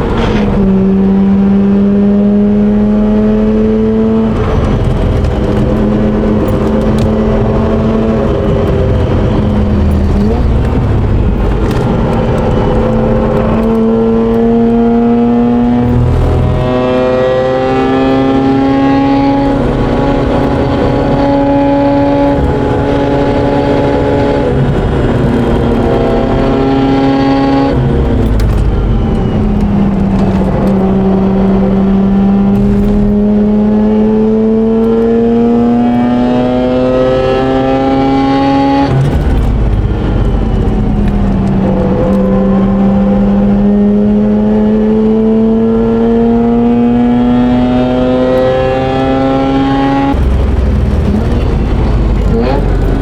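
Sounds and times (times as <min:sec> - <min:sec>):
rotary engine revving: 0:00.0 - 0:53.0.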